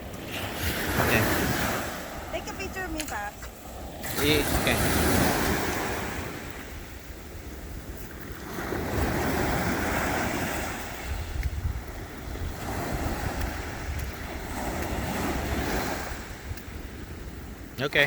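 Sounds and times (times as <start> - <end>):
sea rushing: 0.0 - 18.0
wind buffeting microphone: 0.0 - 18.0.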